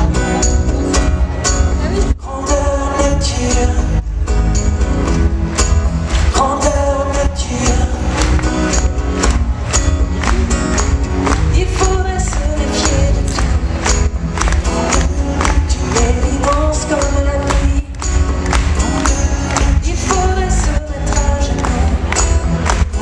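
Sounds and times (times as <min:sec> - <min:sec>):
man singing: 0:00.0 - 0:04.8, 0:06.1 - 0:08.9, 0:11.3 - 0:14.0, 0:14.8 - 0:23.0
acoustic guitars: 0:00.0 - 0:23.0
percussive beat: 0:00.0 - 0:23.0.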